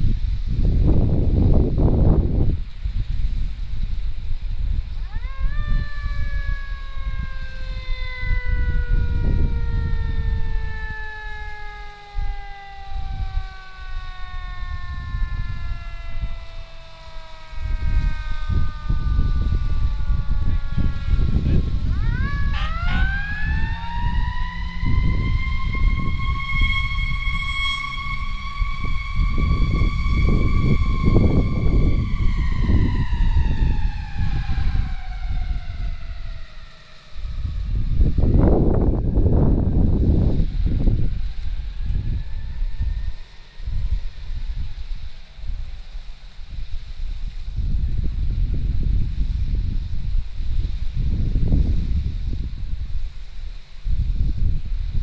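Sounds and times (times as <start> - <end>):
heavy low rumble: 0.0 - 44.8
wind buffeting microphone: 0.0 - 55.0
emergency siren wailing: 4.9 - 55.0.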